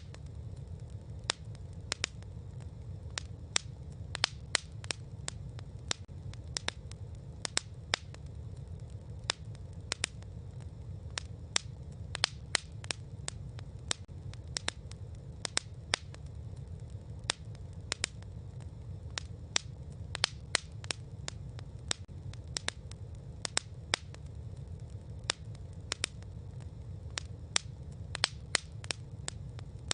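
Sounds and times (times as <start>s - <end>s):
campfire crackling: 0.0s - 29.9s
low rumble: 0.0s - 29.9s.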